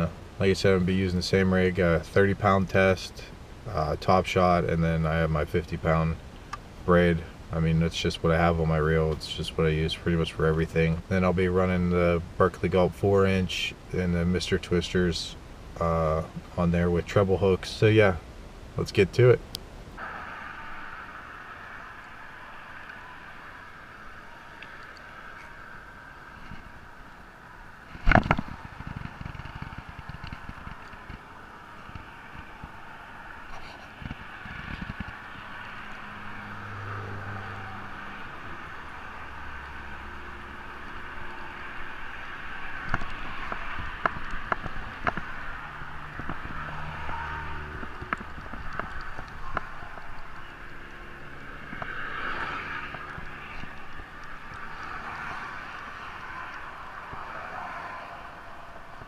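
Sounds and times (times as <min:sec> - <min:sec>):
outdoor hiss: 0:00.0 - 0:47.6
road traffic passing: 0:00.0 - 0:59.0.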